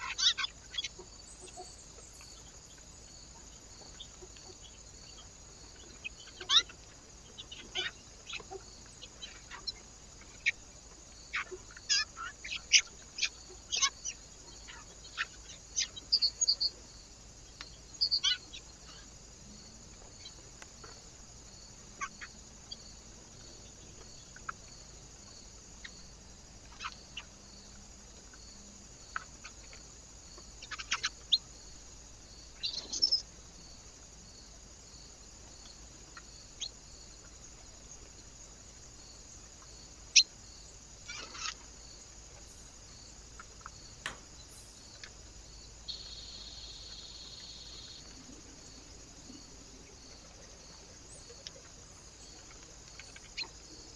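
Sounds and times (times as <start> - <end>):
faint steady hiss: 0.0 - 53.9
small birds chirping: 0.0 - 53.9.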